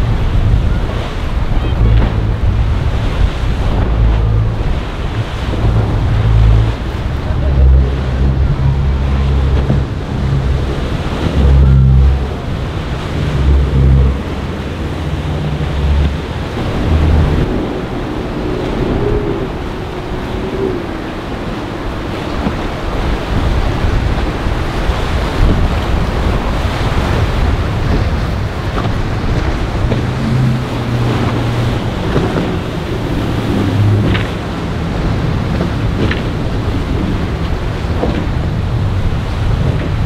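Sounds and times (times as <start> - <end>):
boat motors running: 0.0 - 40.0
boat wakes splashing: 0.0 - 40.0
water churning: 0.0 - 40.0
wind on microphone: 0.0 - 40.0.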